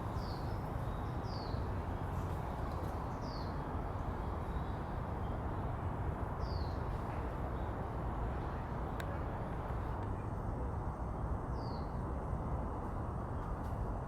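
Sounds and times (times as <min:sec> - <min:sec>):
city background hum: 0:00.0 - 0:14.0.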